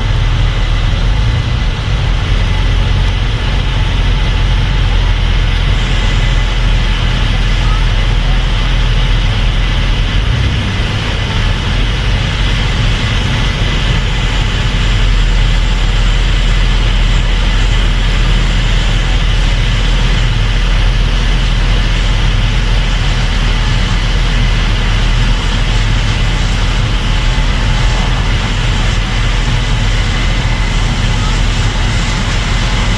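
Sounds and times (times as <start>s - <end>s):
combine harvester droning: 0.0s - 32.9s.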